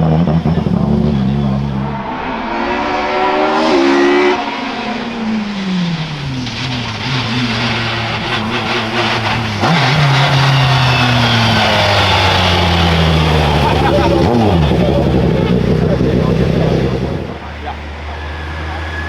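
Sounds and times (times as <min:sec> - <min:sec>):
loud race car engine: 0:00.0 - 0:19.0
race car engine revving: 0:00.0 - 0:19.0.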